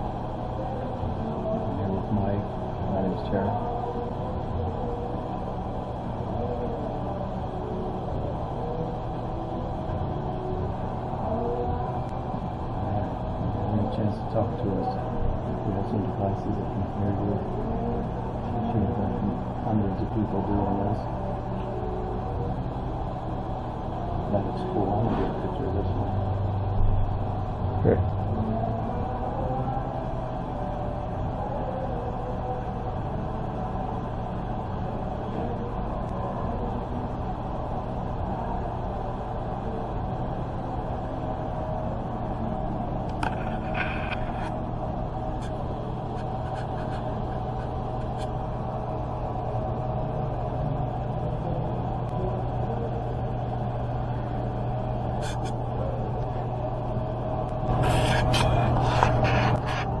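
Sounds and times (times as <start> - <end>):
low mechanical hum: 0.0 - 60.0.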